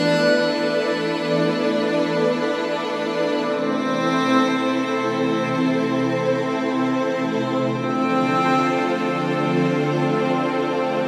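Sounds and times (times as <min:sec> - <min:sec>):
instrumental music with held chords: 0:00.0 - 0:11.0.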